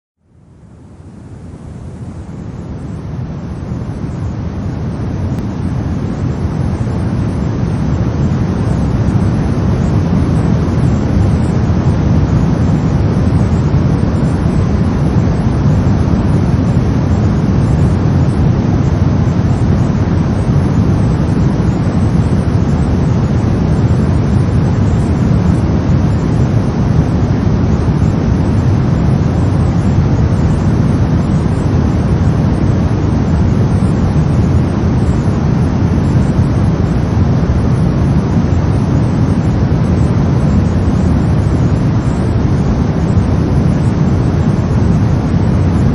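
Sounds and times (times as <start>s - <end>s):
brown noise rumbling hiss: 0.2s - 45.9s.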